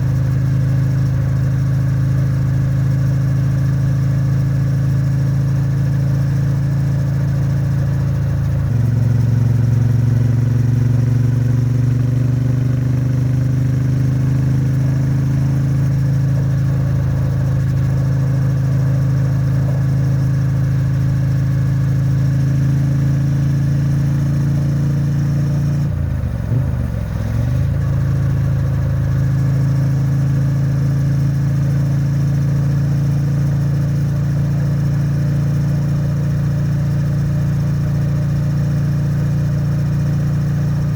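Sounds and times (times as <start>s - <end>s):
motorcycle engine under load: 0.0s - 40.9s.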